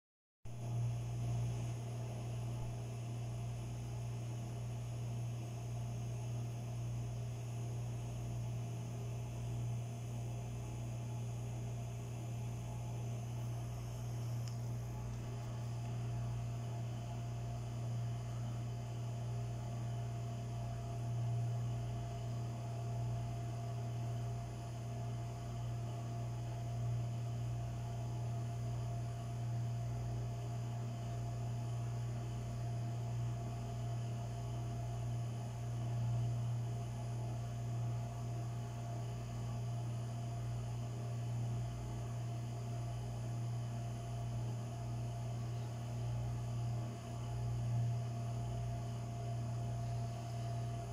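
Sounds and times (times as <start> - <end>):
low mechanical hum: 0.5 - 50.9.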